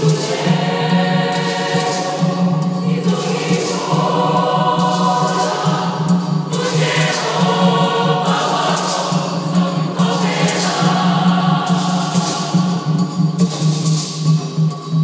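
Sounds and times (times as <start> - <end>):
choir singing in parts: 0.0 - 14.3.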